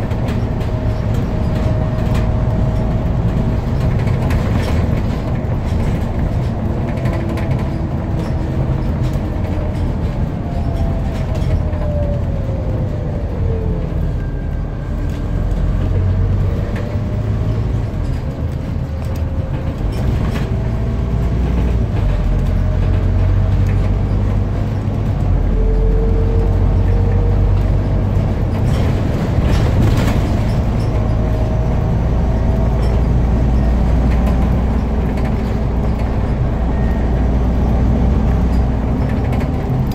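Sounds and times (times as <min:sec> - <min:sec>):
bus engine drone: 0:00.0 - 0:39.9
road noise: 0:00.0 - 0:39.9.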